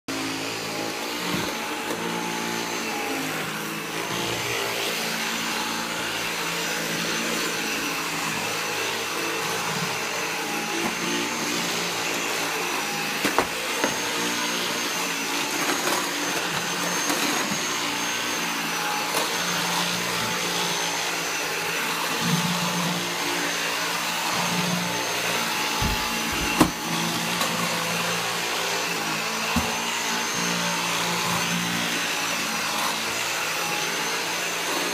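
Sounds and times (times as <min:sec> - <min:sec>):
vacuum cleaner motor whine: 0:00.1 - 0:34.9.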